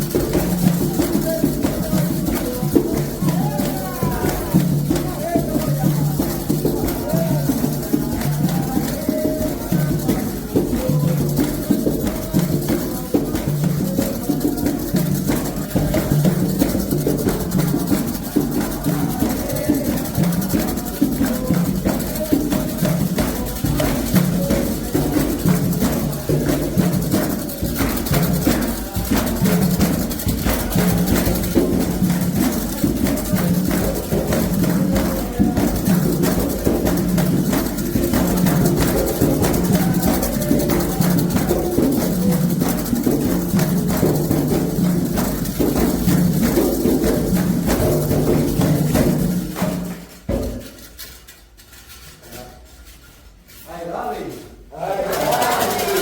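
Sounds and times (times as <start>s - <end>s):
hand drums and percussion: 0.0s - 56.0s
voices chanting: 0.3s - 43.8s, 53.7s - 56.0s.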